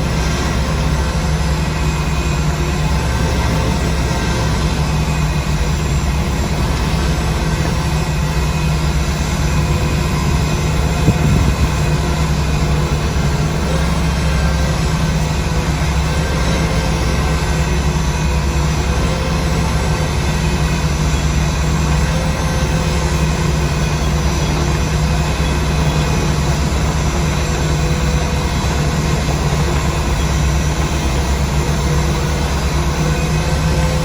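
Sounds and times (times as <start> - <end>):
heavy machinery engine droning: 0.0 - 34.0.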